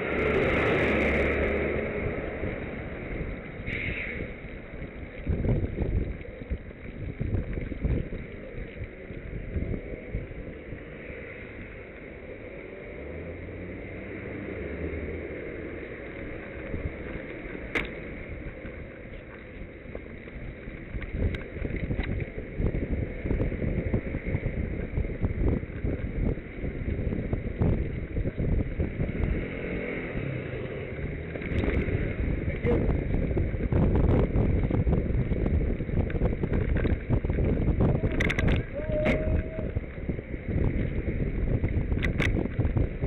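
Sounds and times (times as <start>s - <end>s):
wind buffeting microphone: 0.0s - 11.0s, 16.2s - 43.0s.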